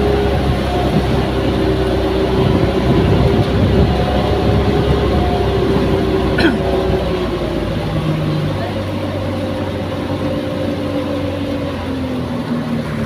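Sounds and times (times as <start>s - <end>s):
boat engine running: 0.0s - 13.0s
water rushing past hull: 0.0s - 13.0s.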